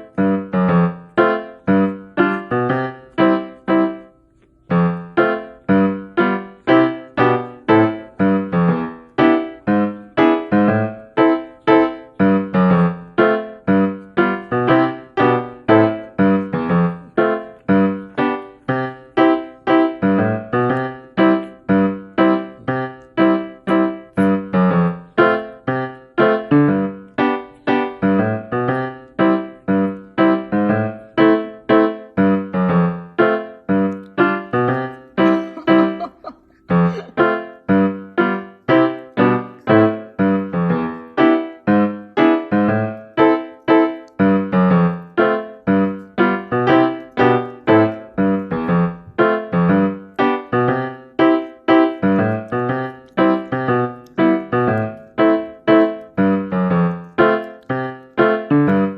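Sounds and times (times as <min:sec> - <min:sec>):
piano music: 0:00.0 - 0:58.9.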